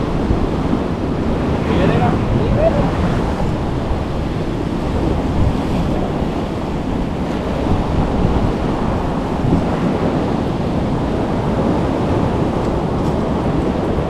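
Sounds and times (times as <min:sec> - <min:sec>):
sea waves: 0:00.0 - 0:14.0
wind buffeting microphone: 0:00.0 - 0:14.0.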